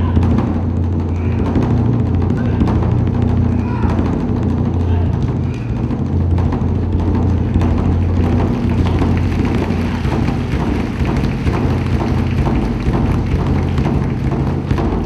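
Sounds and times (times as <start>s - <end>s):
taiko drums rolling: 0.0s - 15.0s.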